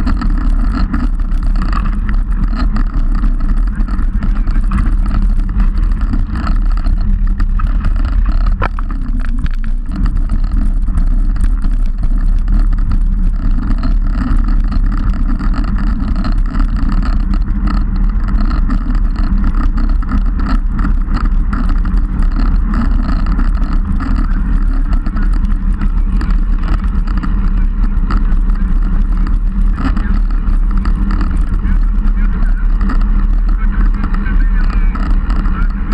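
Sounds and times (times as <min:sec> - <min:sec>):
tyre and road rumble: 0:00.0 - 0:35.9
wind buffeting microphone: 0:00.0 - 0:35.9.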